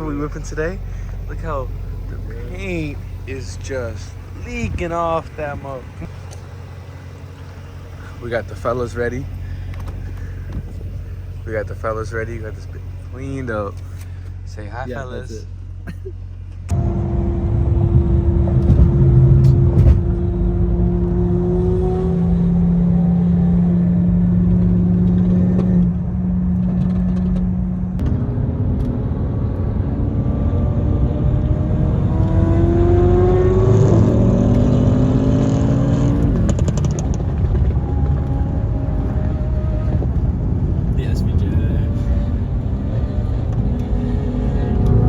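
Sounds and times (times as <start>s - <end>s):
car engine accelerating through gears: 0.0s - 13.9s, 16.7s - 45.0s.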